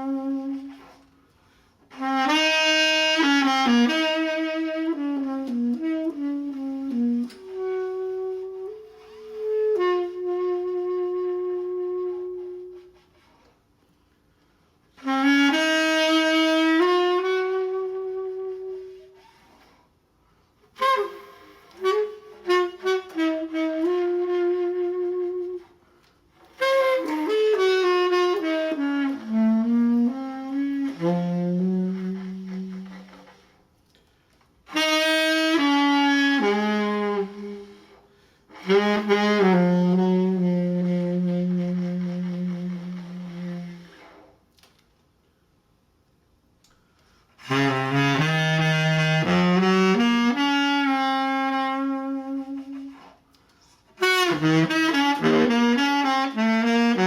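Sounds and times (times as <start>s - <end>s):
solo saxophone: 0.0s - 57.0s.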